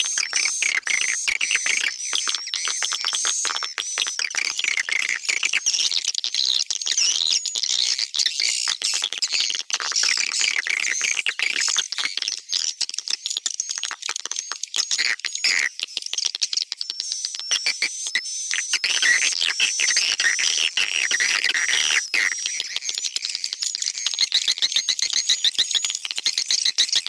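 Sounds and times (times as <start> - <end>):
recorded bird twittering: 0.0 - 27.0.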